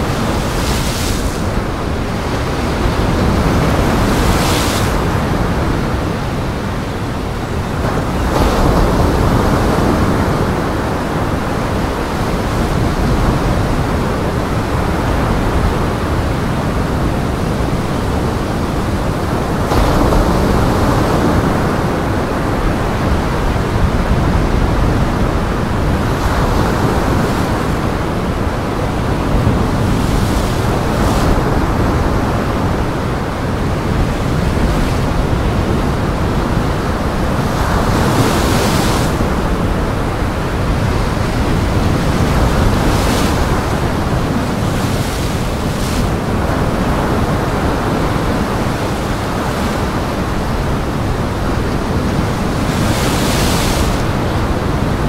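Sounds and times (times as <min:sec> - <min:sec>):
heavy surf: 0:00.0 - 0:55.0
strong wind on microphone: 0:00.0 - 0:55.0.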